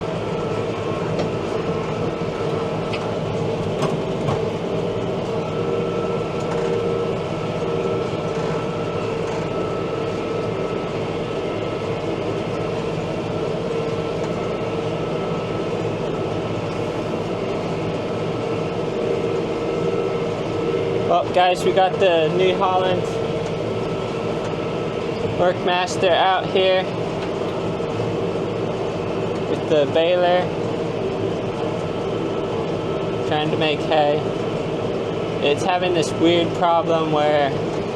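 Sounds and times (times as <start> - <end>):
tractor engine drone: 0.0 - 37.9.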